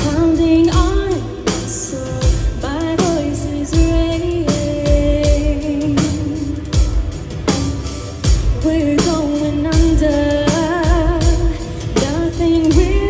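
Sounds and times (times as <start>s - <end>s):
drum hits: 0.0s - 13.0s
metal band playing: 0.0s - 13.0s.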